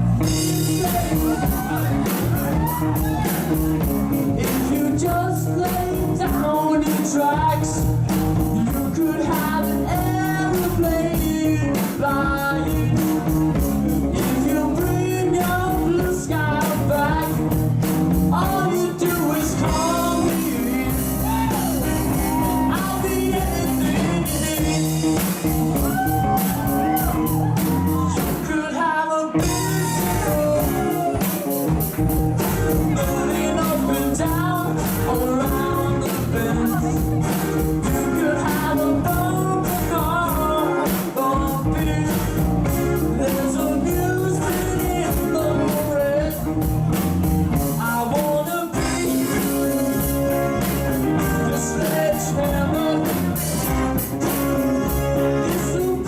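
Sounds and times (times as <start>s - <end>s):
lead vocals singing: 0.0s - 46.7s, 47.6s - 56.0s
live rock band playing: 0.0s - 56.0s.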